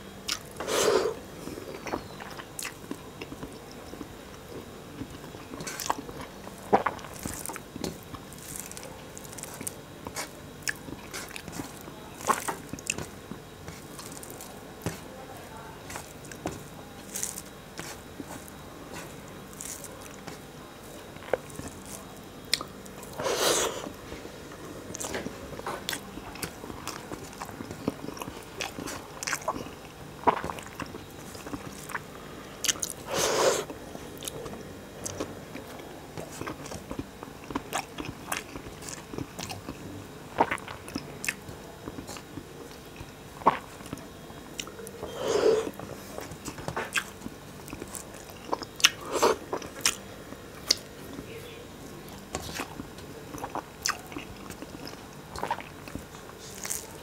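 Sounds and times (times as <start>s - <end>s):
person chewing food: 0.2s - 15.2s, 15.8s - 51.3s, 52.0s - 57.0s.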